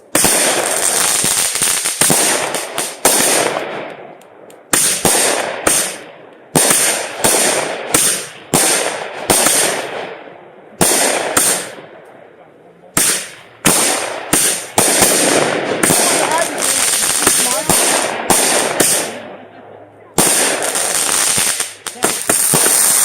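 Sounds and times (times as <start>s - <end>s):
fireworks bangs with crackle: 0.0s - 10.2s, 10.8s - 11.8s, 13.0s - 19.3s, 20.2s - 23.0s.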